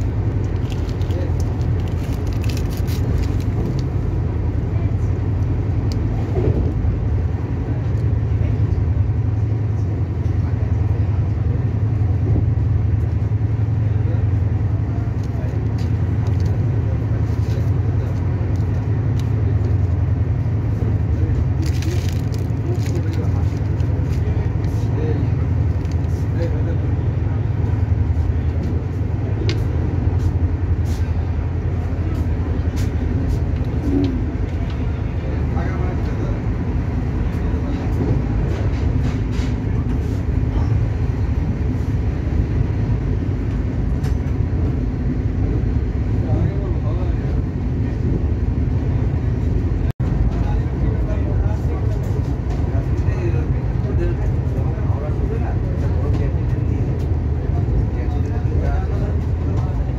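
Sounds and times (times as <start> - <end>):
train rumbling inside coach: 0.0 - 59.9.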